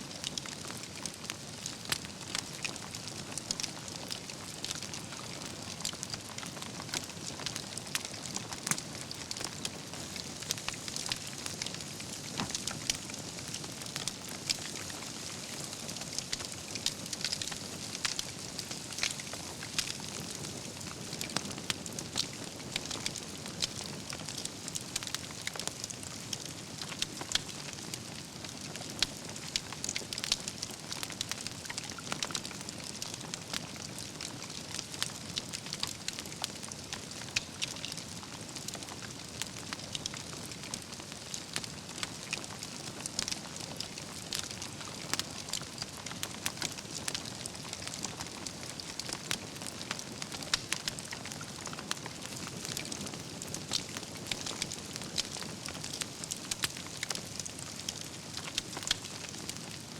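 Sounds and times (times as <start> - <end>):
burning logs crackling: 0.1 - 59.9
campfire flames hissing: 0.1 - 59.9.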